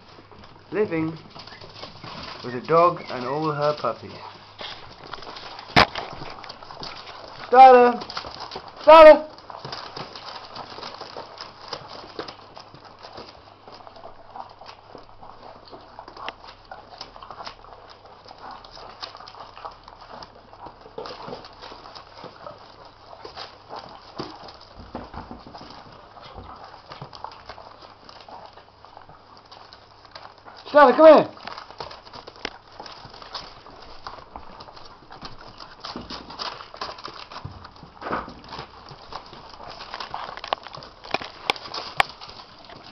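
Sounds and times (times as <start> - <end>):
puppy paws clicking and pattering: 0.0 - 42.9.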